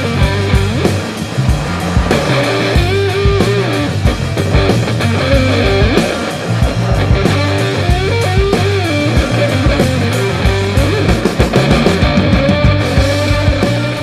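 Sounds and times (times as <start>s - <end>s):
rock music with guitar: 0.0s - 14.0s.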